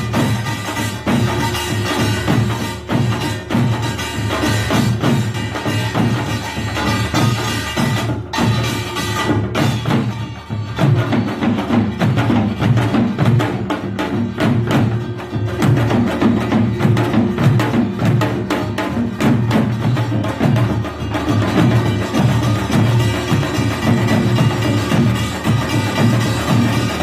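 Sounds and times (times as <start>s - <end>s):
gongs and drums playing fast rhythm: 0.0s - 27.0s.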